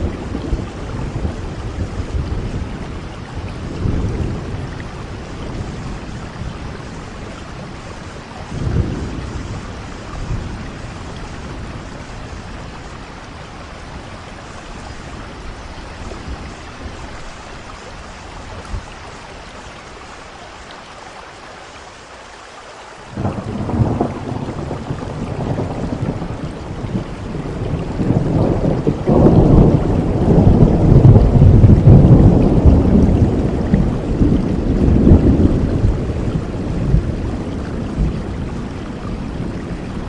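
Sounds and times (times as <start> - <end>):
thunder rumbling: 0.0 - 19.6, 23.1 - 40.0
heavy rain: 0.0 - 40.0.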